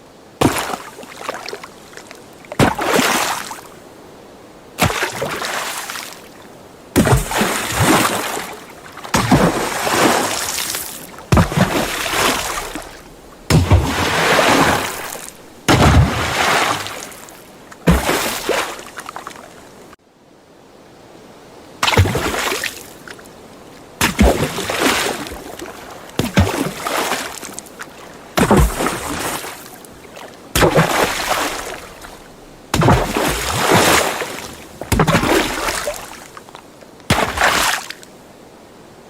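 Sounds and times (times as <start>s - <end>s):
water splashes: 0.4s - 3.9s, 4.8s - 20.0s, 21.8s - 38.2s.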